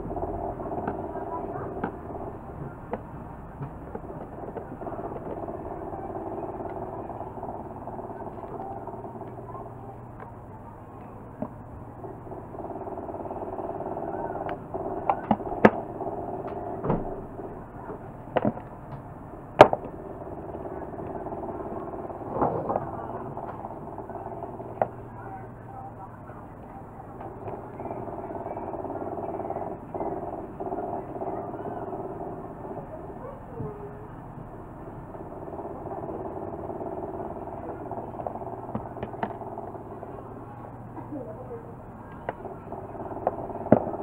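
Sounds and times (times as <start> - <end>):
steady background drone: 0.0 - 44.0.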